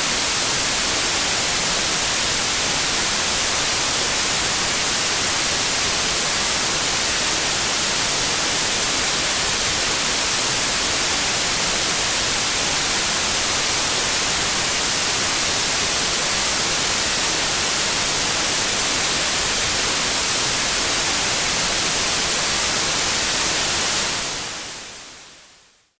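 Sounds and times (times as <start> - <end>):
white noise hiss: 0.0 - 26.0.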